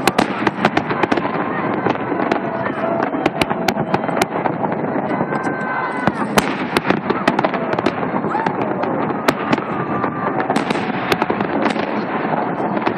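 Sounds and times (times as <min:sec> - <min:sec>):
crowd chatter: 0:00.0 - 0:12.9
fireworks cracks and bangs: 0:00.0 - 0:12.9.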